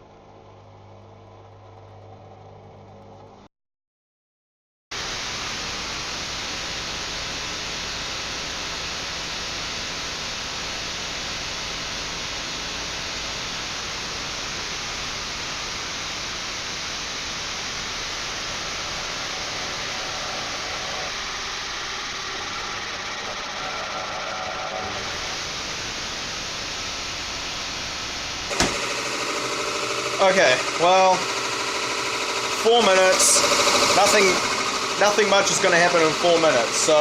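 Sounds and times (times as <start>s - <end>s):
washing machine water rushing: 5.0s - 37.0s.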